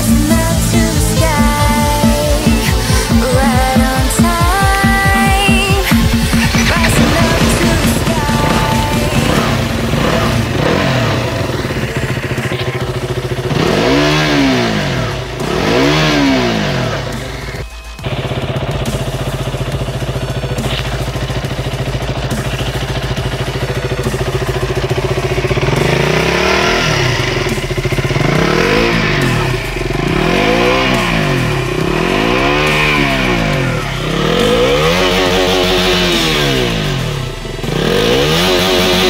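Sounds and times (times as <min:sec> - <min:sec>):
motorcycle engine idling and revving: 0:00.0 - 0:39.0.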